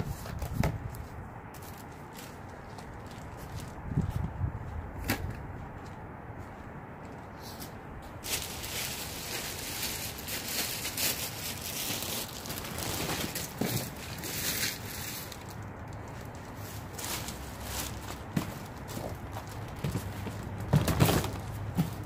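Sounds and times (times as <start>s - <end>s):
rustling and handling noise: 0.0s - 22.0s.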